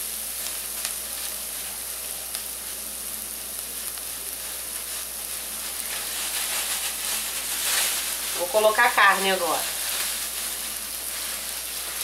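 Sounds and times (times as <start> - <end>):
onion and garlic sizzling: 0.0 - 12.0.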